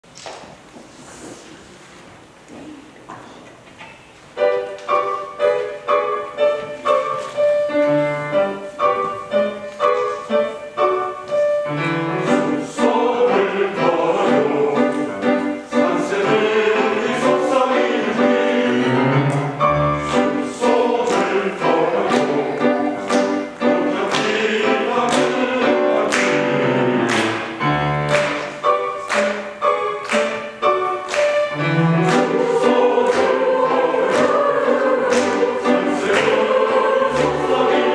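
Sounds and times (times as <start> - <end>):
piano accompaniment: 3.8 - 37.9
choir singing: 4.4 - 37.9.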